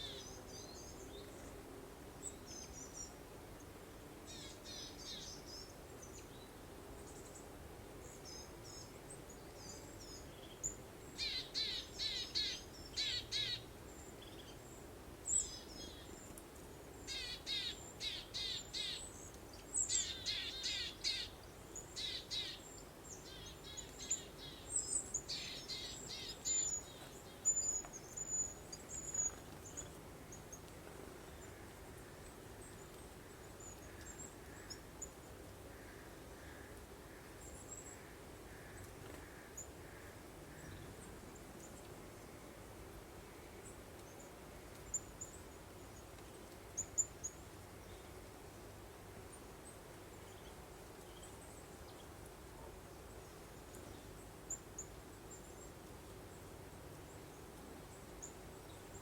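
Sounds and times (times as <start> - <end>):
faint steady background hiss: 0.0 - 59.0.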